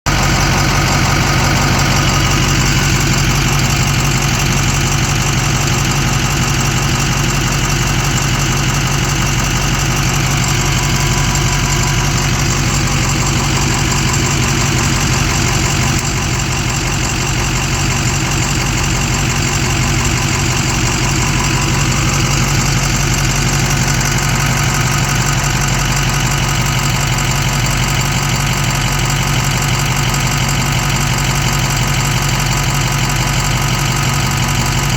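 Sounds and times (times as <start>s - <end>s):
engine idling: 0.0s - 34.9s
fast even ticking: 0.1s - 34.9s.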